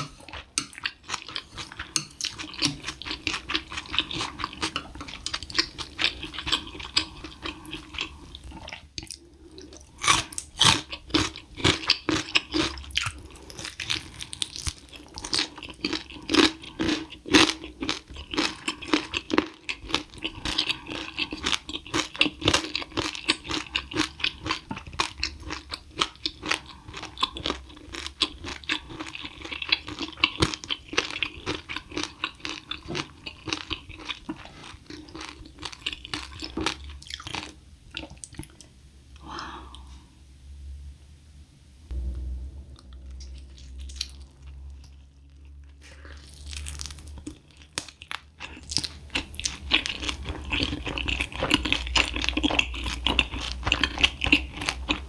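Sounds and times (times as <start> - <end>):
person chewing crunchy food: 0.0 - 40.0, 42.8 - 55.0.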